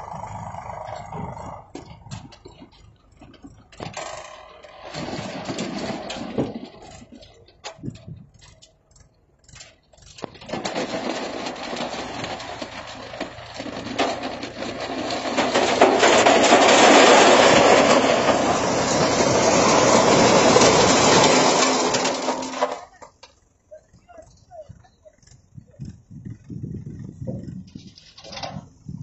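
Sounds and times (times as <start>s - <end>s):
stones rattling into a trailer: 0.0s - 8.7s, 9.4s - 23.4s, 27.3s - 29.0s
tractor engine humming: 0.0s - 29.0s.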